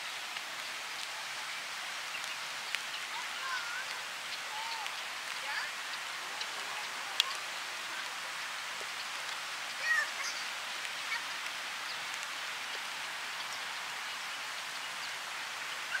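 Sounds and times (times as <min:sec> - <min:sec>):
moving water hissing: 0:00.0 - 0:16.0.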